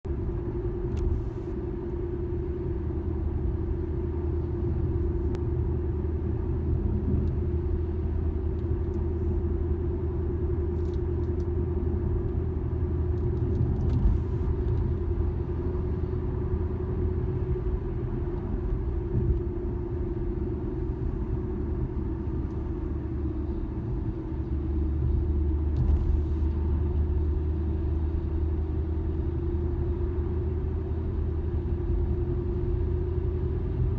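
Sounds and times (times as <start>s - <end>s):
low road rumble: 0.0s - 33.9s
car humming while driving: 0.1s - 33.9s.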